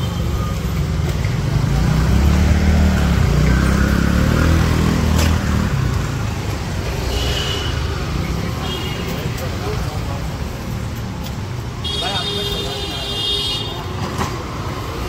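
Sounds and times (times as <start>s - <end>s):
scooter engines passing: 0.0s - 15.0s.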